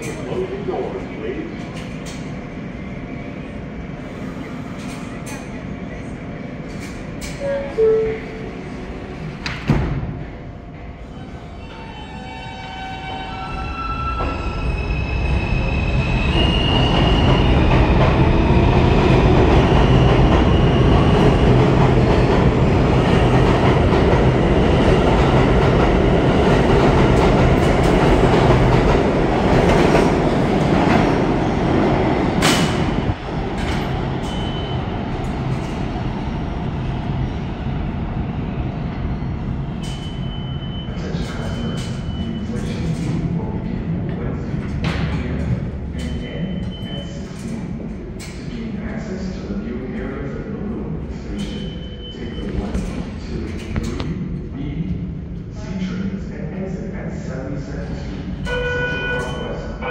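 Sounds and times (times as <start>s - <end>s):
rumble of train cars passing: 0.0s - 59.9s
subway train propulsion whine: 0.0s - 59.9s.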